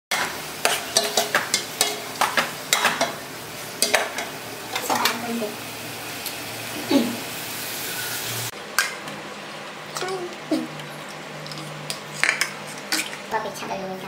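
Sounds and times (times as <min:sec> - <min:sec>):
oil sizzling: 0:00.1 - 0:14.0.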